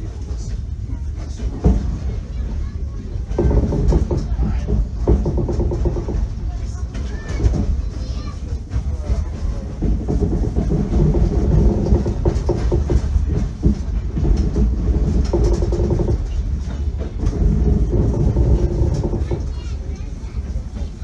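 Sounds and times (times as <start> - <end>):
train wheels rumbling: 0.0 - 21.0
wheels clacking over rail joints: 0.0 - 21.0.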